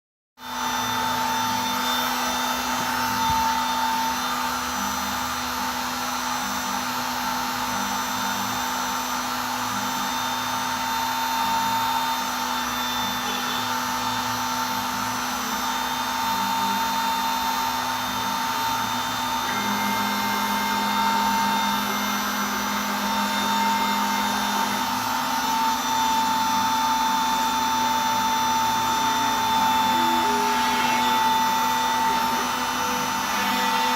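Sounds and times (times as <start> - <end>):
spindle motor whine: 0.4 - 33.9.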